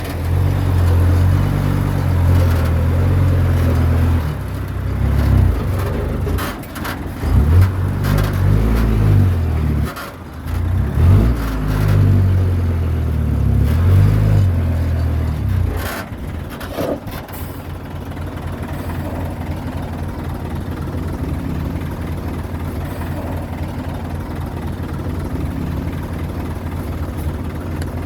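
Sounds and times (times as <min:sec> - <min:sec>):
bulldozer diesel engine working: 0:00.0 - 0:28.0.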